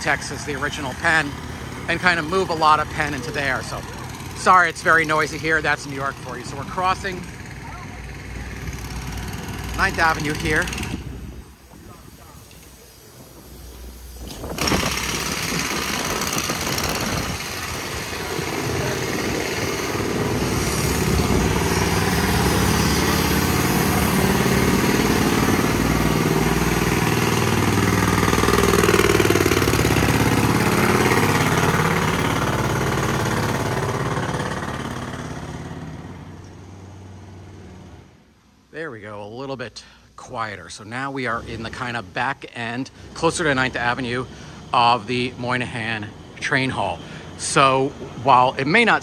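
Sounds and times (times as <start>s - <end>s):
construction machinery din: 0.0s - 49.0s.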